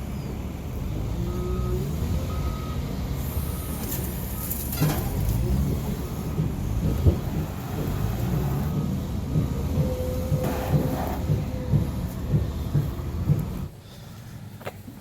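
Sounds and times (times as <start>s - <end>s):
truck engine running: 0.0s - 13.8s
reversing alarm beeping: 1.2s - 13.3s.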